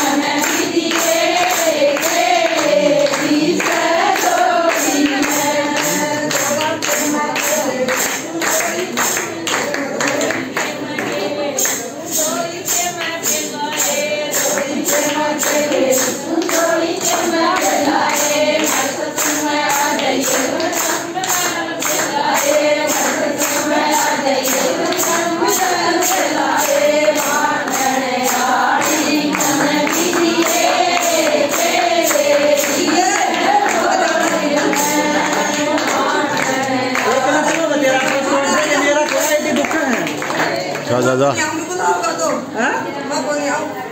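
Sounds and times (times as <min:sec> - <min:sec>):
clapping or hand percussion: 0:00.0 - 0:42.2
group singing devotional song: 0:00.0 - 0:43.9.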